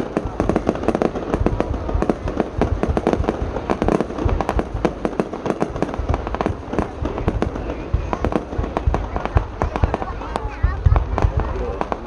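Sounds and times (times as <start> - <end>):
deep booming rumble: 0.0 - 12.0
fireworks bangs and cracks: 0.0 - 12.0.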